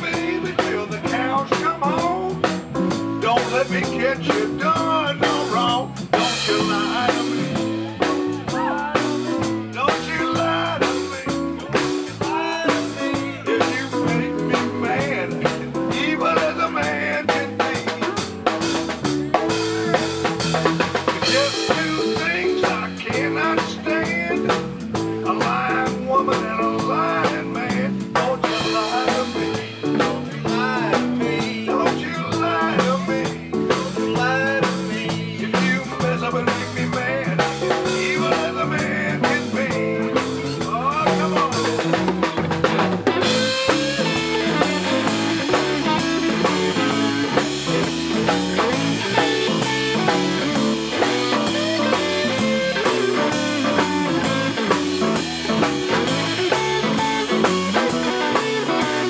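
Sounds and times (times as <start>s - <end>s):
bending lead guitar notes: 0.0s - 59.0s
drum kit: 0.0s - 59.0s
electric bass: 0.0s - 59.0s
electric guitars: 0.0s - 59.0s.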